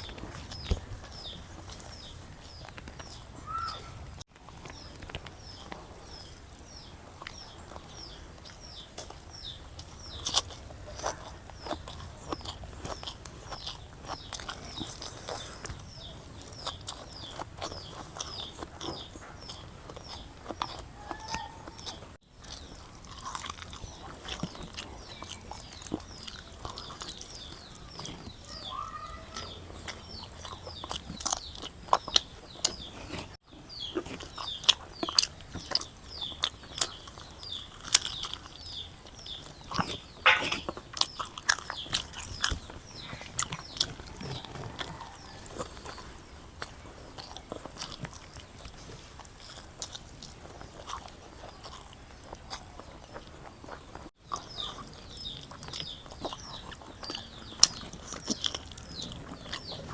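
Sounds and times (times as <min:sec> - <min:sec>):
bird chirping: 0:00.0 - 0:59.9
chewing and mouth smacks: 0:00.0 - 0:59.9.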